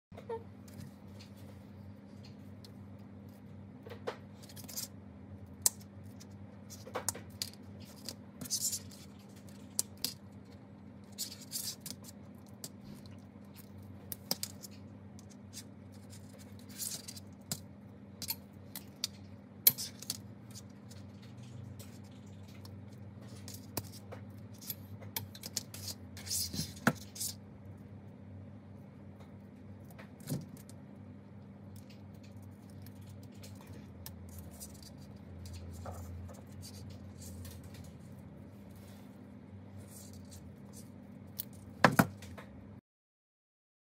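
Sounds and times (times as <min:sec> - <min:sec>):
steady low hum: 0:00.1 - 0:42.8.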